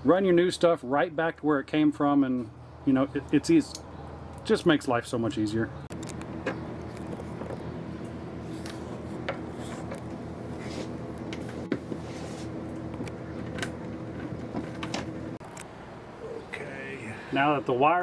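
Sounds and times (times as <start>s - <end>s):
steady low hum: 2.4s - 18.0s.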